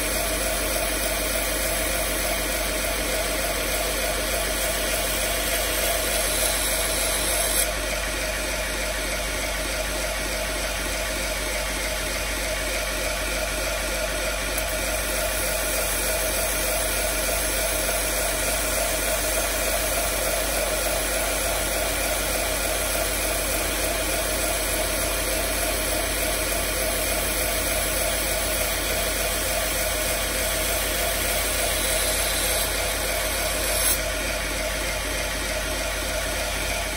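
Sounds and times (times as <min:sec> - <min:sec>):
belt grinder hum and hiss: 0:00.0 - 0:08.6, 0:14.5 - 0:36.9.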